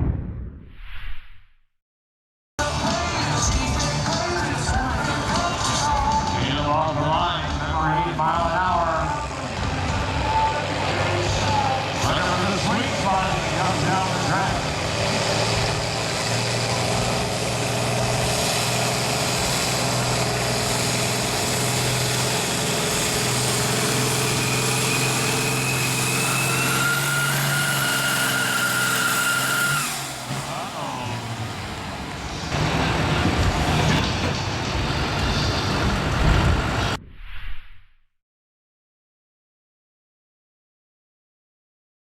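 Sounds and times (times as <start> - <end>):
diesel engine under load: 2.6 - 37.0.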